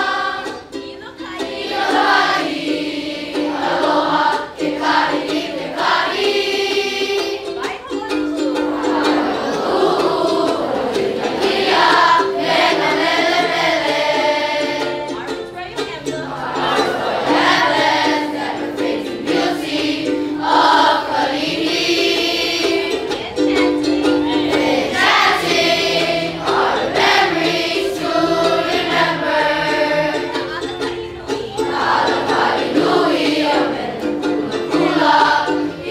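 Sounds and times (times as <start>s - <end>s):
students singing together: 0.0s - 7.6s, 8.3s - 35.9s
instrumental accompaniment: 0.0s - 35.9s.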